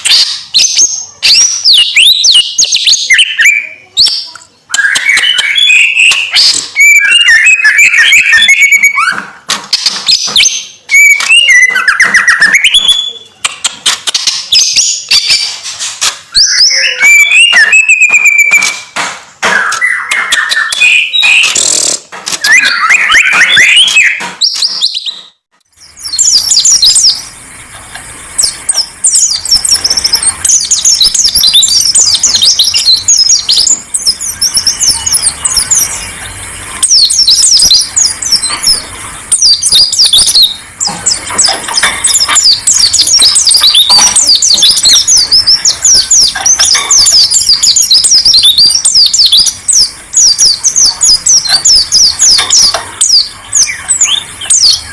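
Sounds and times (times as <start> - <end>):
bird twittering rapidly: 0.0 - 54.9
songbirds singing: 0.0 - 54.9.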